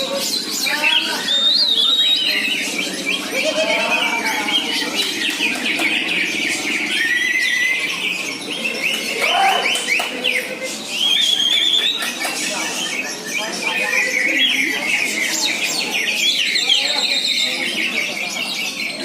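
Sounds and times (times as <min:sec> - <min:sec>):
birds singing with trills: 0:00.0 - 0:19.0.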